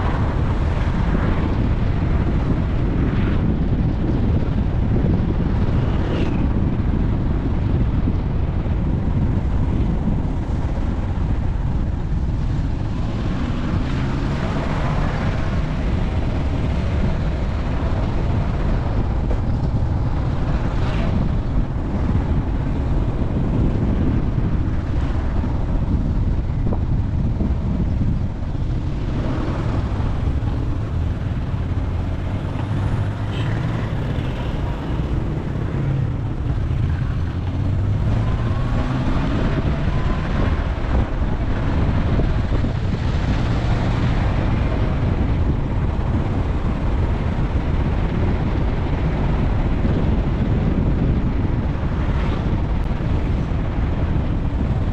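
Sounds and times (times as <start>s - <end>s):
car rumbling on road: 0.0s - 54.9s
passing vehicles swooshing: 0.0s - 54.9s
wind noise on microphone: 0.0s - 54.9s.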